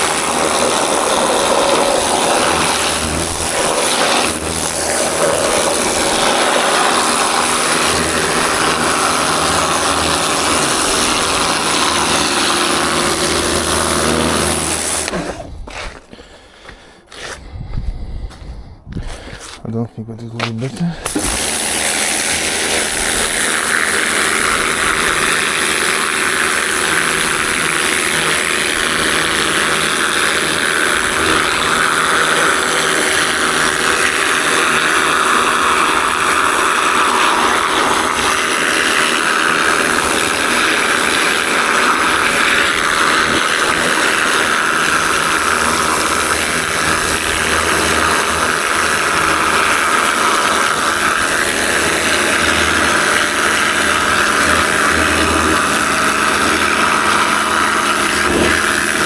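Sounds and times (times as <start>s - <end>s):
machine running: 0.0s - 16.0s, 20.8s - 59.0s.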